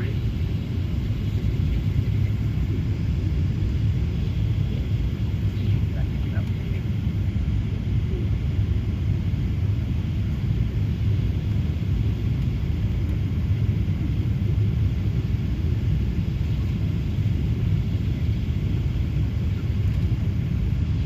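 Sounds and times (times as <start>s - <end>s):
air rushing past airliner: 0.0s - 21.0s
airplane cabin engine rumble: 0.0s - 21.0s.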